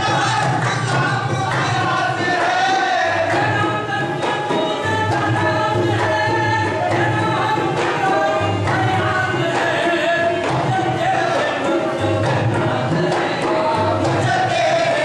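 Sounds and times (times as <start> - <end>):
group singing in unison: 0.0 - 15.0
rhythmic drums: 0.0 - 15.0.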